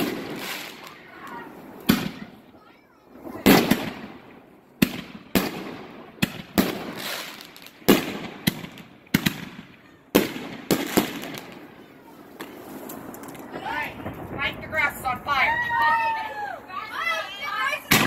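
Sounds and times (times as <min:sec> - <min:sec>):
fireworks bangs with echo: 0:00.0 - 0:16.3, 0:17.2 - 0:18.0.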